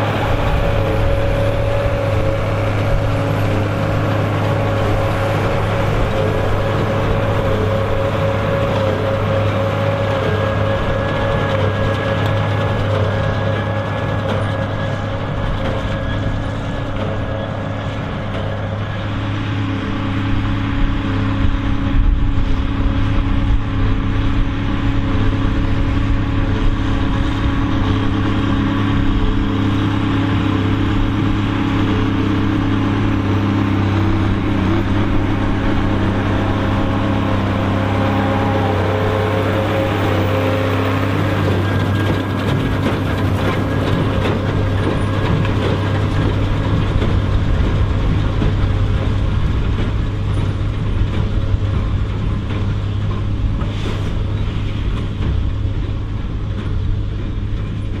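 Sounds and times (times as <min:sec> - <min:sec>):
baler working: 0:00.0 - 0:58.0
tractor diesel engine under load: 0:00.0 - 0:58.0.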